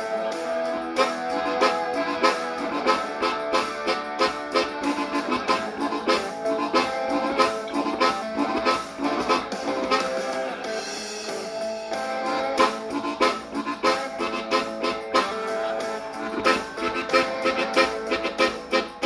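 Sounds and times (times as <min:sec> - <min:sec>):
blues harmonica: 0:00.0 - 0:19.0.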